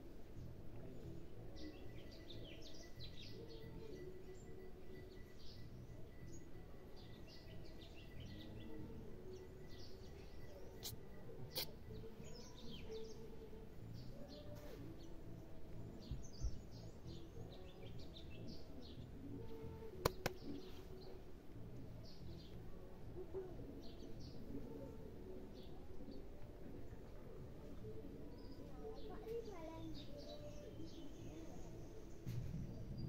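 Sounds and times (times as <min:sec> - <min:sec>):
small birds chirping: 0:00.3 - 0:33.0.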